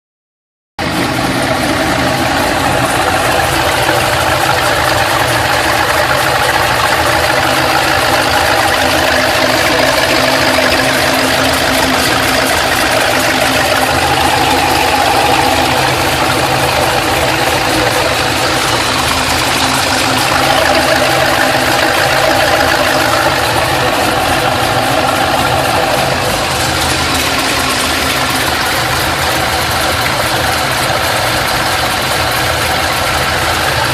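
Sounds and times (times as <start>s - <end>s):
car engine idling with ticking: 0.8s - 33.9s.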